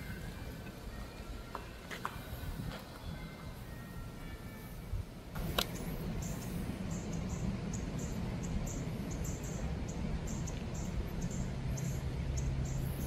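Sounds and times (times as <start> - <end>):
steady low rumble: 2.2 - 13.0.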